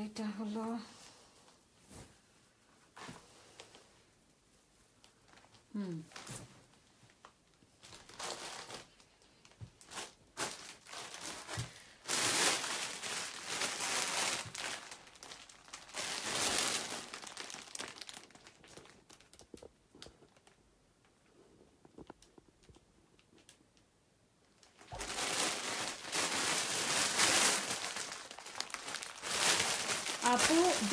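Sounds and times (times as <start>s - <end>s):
fabric rustling and crinkling: 0.8s - 23.8s, 24.4s - 30.9s.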